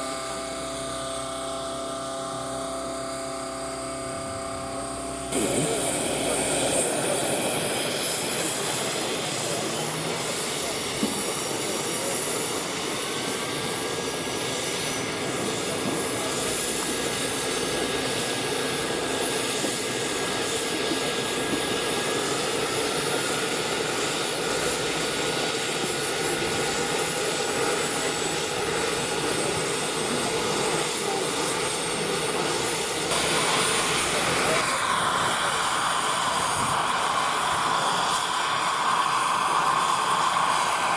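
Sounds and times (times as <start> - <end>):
model helicopter engine and rotors: 0.0 - 40.9.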